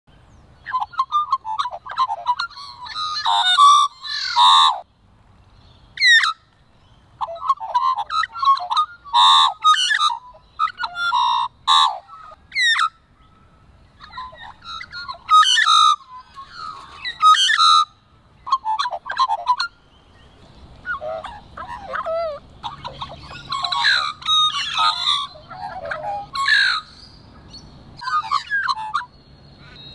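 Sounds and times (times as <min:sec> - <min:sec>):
magpie singing: 0:00.6 - 0:04.8, 0:07.2 - 0:29.9.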